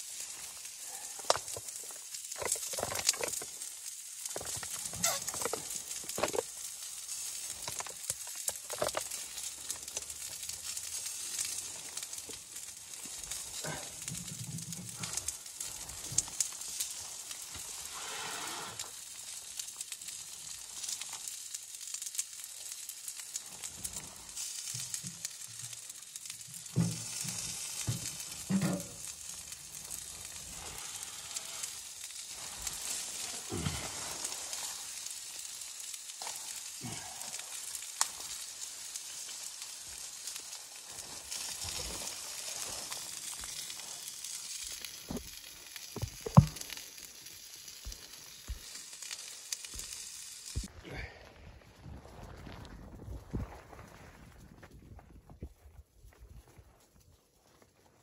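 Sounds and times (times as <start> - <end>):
steady hiss: 0.0 - 51.3.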